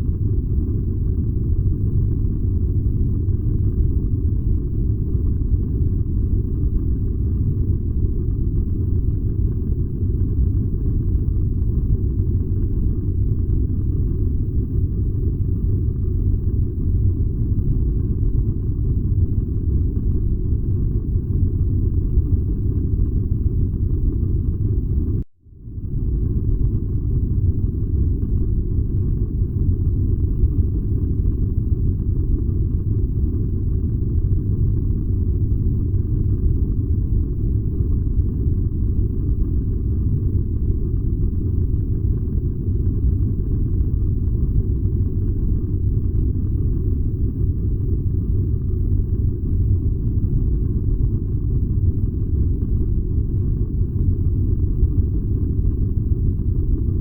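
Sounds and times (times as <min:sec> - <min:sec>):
furnace burning low rumble: 0:00.0 - 0:57.0.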